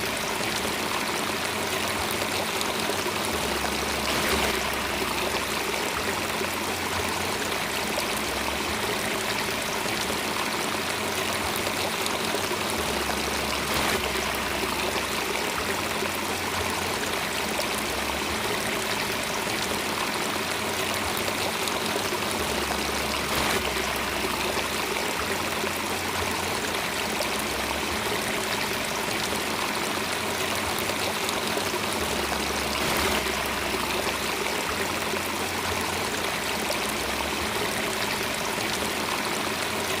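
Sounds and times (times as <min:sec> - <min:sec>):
water flowing: 0:00.0 - 0:40.0.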